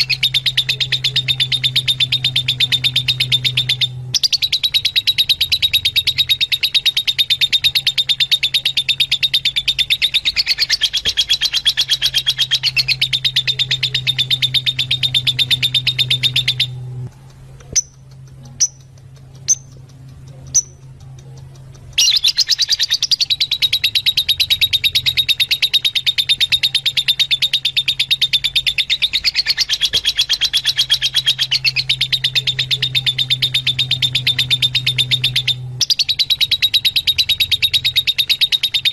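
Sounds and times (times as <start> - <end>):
lovebirds chattering: 0.0 - 38.9
steady low hum: 0.0 - 38.9.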